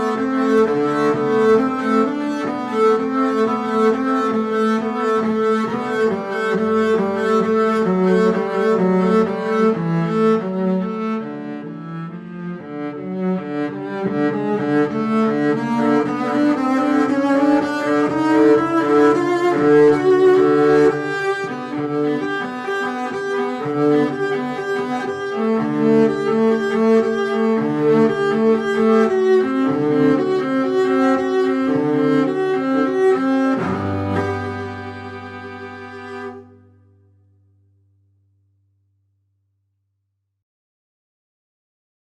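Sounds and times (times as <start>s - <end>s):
bowed strings sustained notes: 0.0s - 37.7s.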